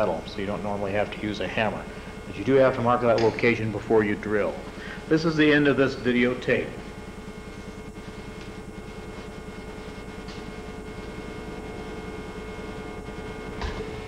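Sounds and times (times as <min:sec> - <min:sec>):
workshop machinery hum: 0:00.0 - 0:14.0.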